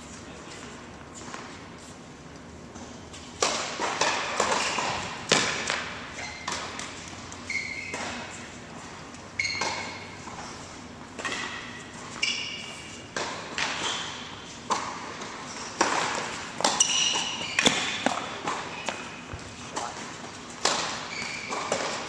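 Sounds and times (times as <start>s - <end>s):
sneakers squeaking on court: 4.0s - 22.0s.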